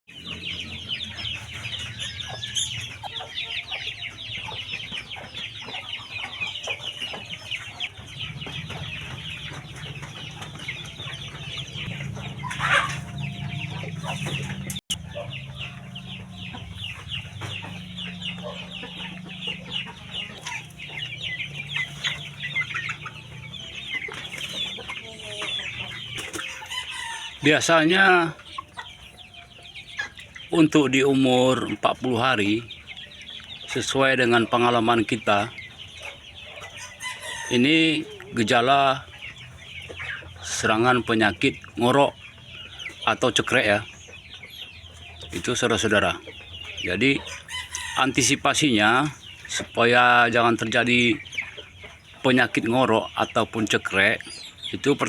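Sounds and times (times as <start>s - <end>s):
young chickens cheeping and clucking: 0.1s - 55.0s.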